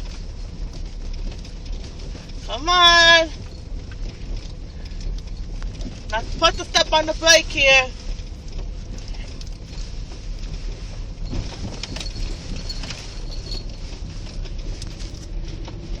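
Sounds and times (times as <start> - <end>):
small clicks and rattles: 0.0 - 16.0
tyres rumbling on icy road: 0.0 - 16.0.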